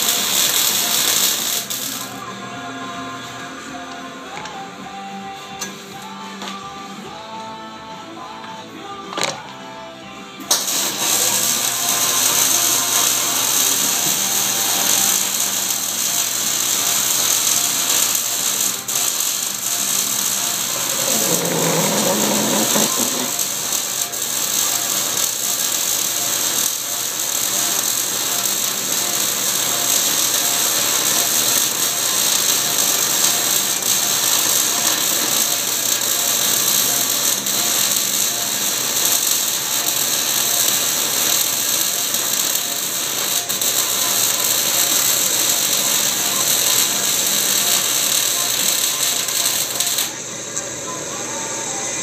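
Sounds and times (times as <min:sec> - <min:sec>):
lathe drilling into steel: 0:00.0 - 0:02.1, 0:10.5 - 0:50.2.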